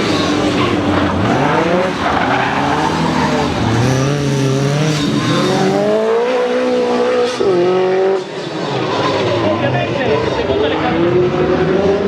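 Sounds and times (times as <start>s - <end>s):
racing car engine accelerating: 0.0s - 10.1s.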